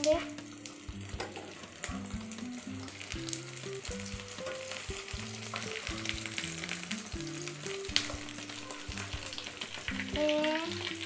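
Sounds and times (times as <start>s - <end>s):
oil sizzling in frying pan: 0.0s - 11.0s
soft background music: 0.0s - 11.0s.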